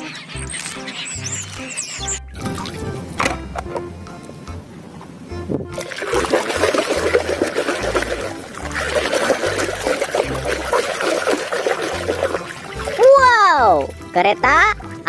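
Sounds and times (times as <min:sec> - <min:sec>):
water splashing and trickling: 0:00.1 - 0:03.6, 0:05.6 - 0:15.0.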